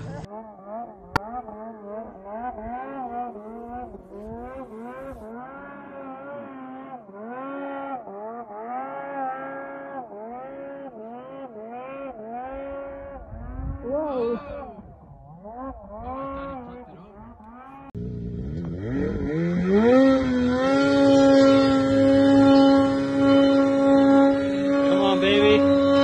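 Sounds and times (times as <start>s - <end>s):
distant snowmobile engine revving: 0.0s - 26.0s.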